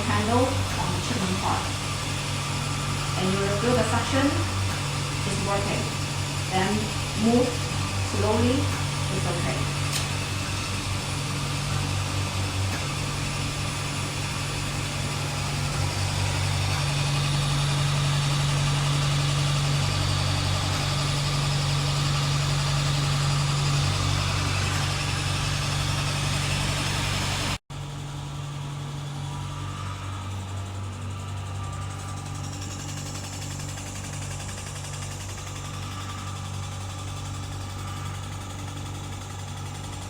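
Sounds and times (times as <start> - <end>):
vacuum machine motor hum: 0.0 - 40.0.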